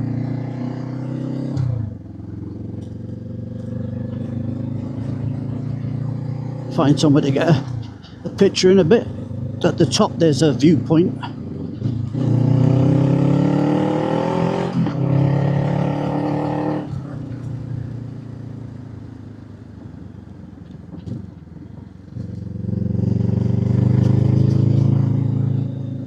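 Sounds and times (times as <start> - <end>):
motorcycle engine revving: 0.0 - 19.3, 22.1 - 26.0.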